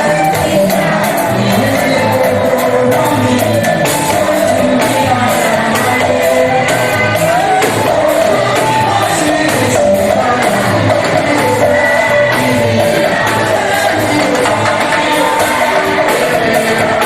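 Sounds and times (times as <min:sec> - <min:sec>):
band accompaniment: 0:00.0 - 0:17.0
choir singing: 0:00.0 - 0:17.0
steady percussion beat: 0:00.0 - 0:17.0.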